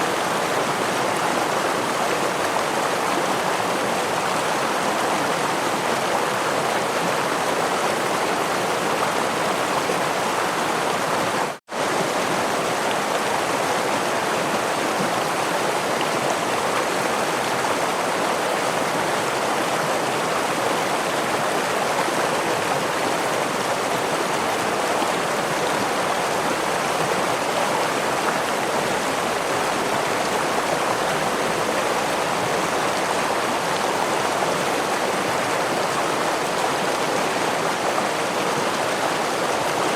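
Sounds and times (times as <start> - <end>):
stream rushing over small waterfall: 0.0 - 39.9.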